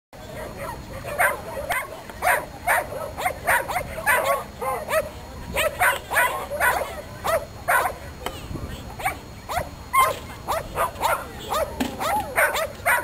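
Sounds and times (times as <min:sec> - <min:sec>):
dog barking: 0:00.3 - 0:08.0, 0:09.0 - 0:13.0.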